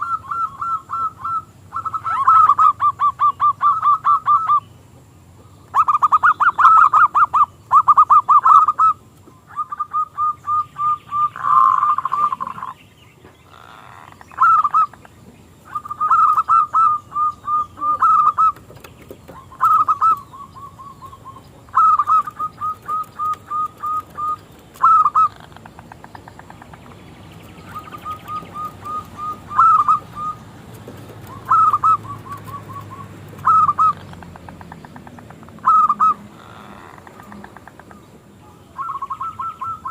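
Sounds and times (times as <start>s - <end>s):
dove cooing: 0.0s - 4.7s, 5.7s - 12.8s, 13.4s - 39.9s.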